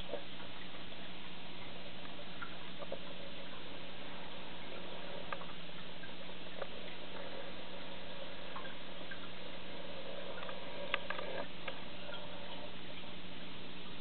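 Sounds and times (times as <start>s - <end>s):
aquarium equipment hum: 0.0s - 14.0s
faint ticks: 1.5s - 13.1s.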